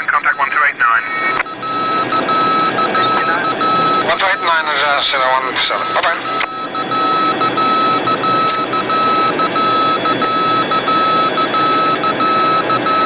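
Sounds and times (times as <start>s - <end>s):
morse code beeps: 0.0s - 13.0s.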